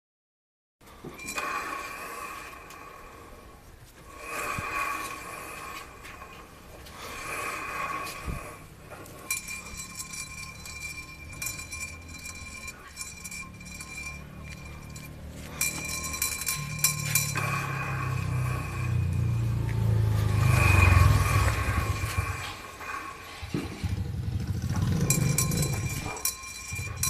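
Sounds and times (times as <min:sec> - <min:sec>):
wheel squealing and clinking: 0:00.9 - 0:27.0
rapid metallic ticking: 0:01.0 - 0:27.0
low hum: 0:01.1 - 0:27.0.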